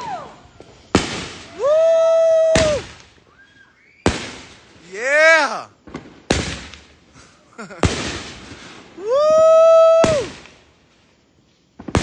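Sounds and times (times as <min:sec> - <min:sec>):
fireworks bangs: 0:00.0 - 0:11.0, 0:11.8 - 0:12.0.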